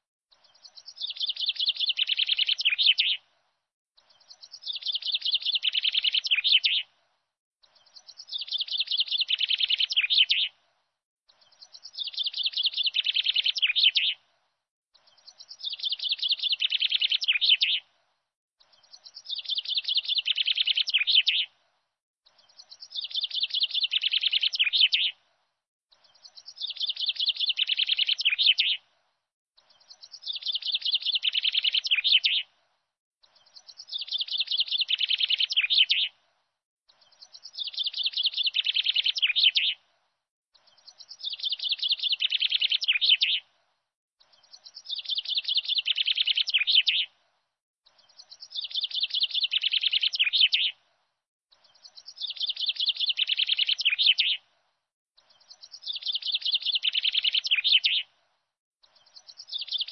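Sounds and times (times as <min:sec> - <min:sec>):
bird chirping: 0:00.3 - 0:03.2, 0:04.0 - 0:06.9, 0:07.6 - 0:10.6, 0:11.3 - 0:14.2, 0:15.0 - 0:17.9, 0:18.6 - 0:21.6, 0:22.2 - 0:25.2, 0:25.9 - 0:28.9, 0:29.6 - 0:32.5, 0:33.2 - 0:36.2, 0:36.9 - 0:39.8, 0:40.6 - 0:43.5, 0:44.2 - 0:47.2, 0:47.8 - 0:50.8, 0:51.5 - 0:54.5, 0:55.2 - 0:58.2, 0:58.8 - 0:59.9.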